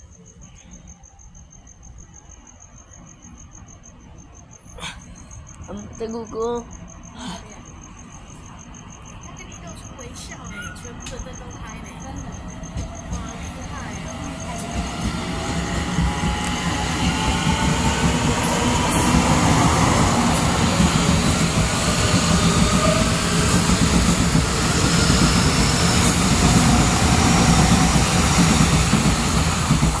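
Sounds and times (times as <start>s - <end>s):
electric train passing: 5.3s - 30.0s.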